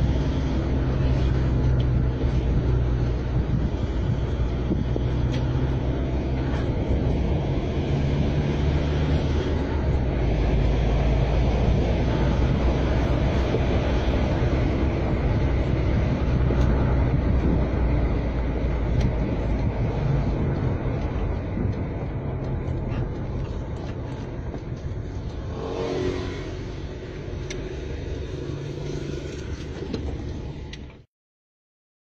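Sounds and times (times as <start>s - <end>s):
car engine and road rumble: 0.0s - 31.1s.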